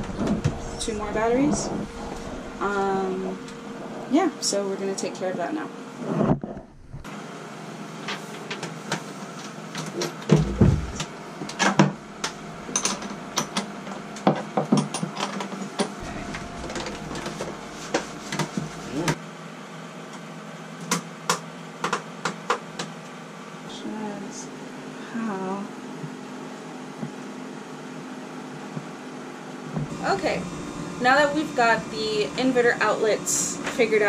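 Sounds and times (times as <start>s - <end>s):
steady hum: 0.0s - 9.2s, 9.8s - 14.4s, 15.8s - 19.2s, 23.5s - 34.0s.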